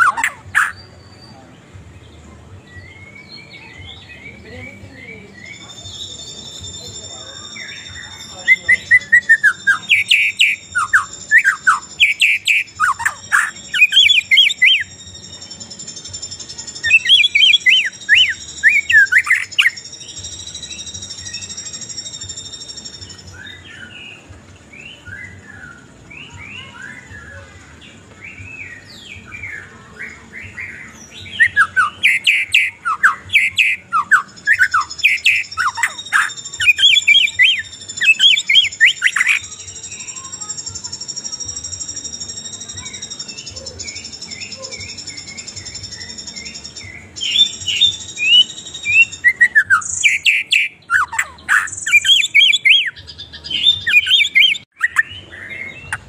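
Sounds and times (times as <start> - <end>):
birds singing whistled phrases: 0.0 - 1.8, 2.6 - 56.0.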